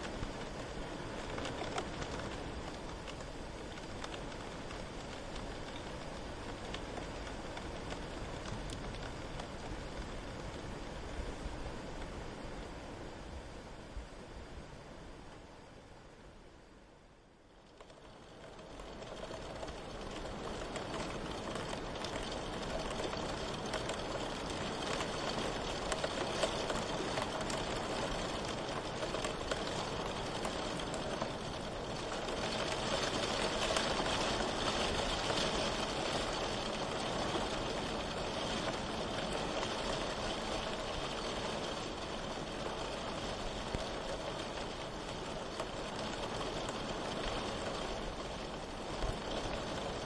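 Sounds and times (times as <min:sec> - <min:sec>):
steady rain falling: 0:00.0 - 0:50.0.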